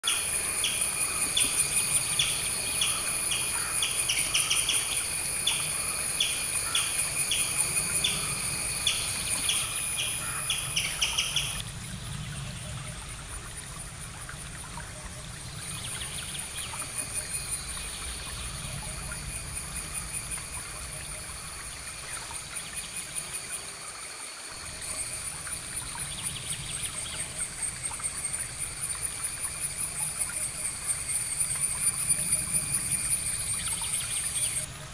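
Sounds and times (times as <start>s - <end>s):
insect chorus pulsing trill: 0.0s - 11.6s, 12.6s - 34.7s.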